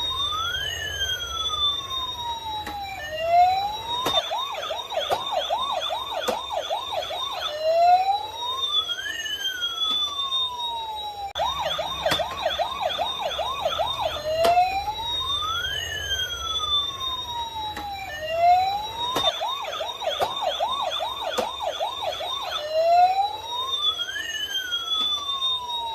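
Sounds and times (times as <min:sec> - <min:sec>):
toy ambulance siren: 0:00.0 - 0:25.9.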